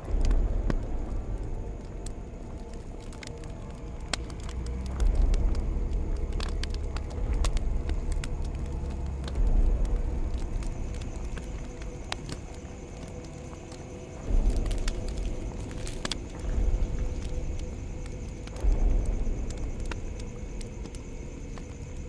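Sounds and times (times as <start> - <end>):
fire crackling and popping: 0.0 - 22.0
fire roaring: 0.0 - 22.0.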